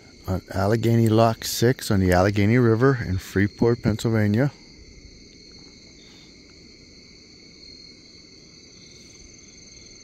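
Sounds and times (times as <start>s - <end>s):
crickets trilling: 0.0s - 10.0s
faint low background hiss: 0.0s - 10.0s.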